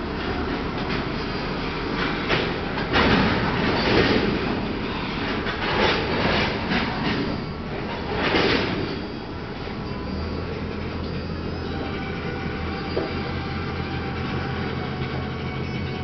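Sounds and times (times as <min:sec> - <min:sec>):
freight train rumbling: 0:00.0 - 0:16.0
train cars clanking: 0:00.0 - 0:16.0.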